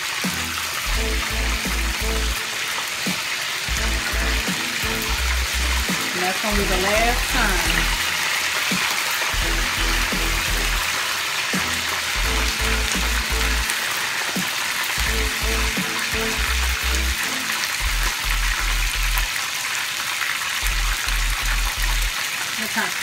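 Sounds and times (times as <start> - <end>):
background music with bass beat: 0.0 - 2.4, 3.7 - 13.7, 14.4 - 19.3, 20.6 - 22.1
chicken deep-frying in oil: 0.0 - 23.0.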